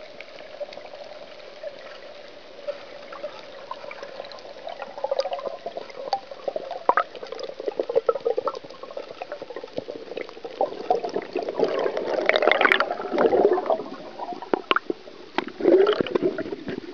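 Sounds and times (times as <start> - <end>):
water gurgling underwater: 0.0 - 16.9.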